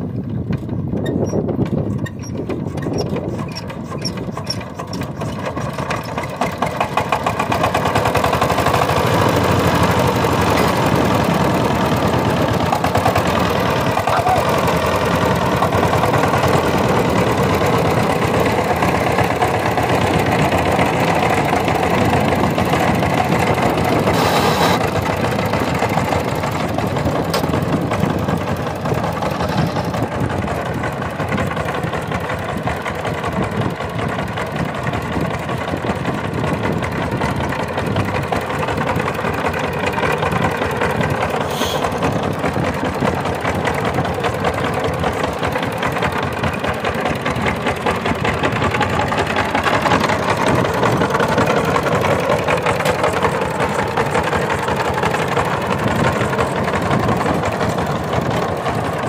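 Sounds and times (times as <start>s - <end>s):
diesel engine knocking: 0.0s - 59.0s.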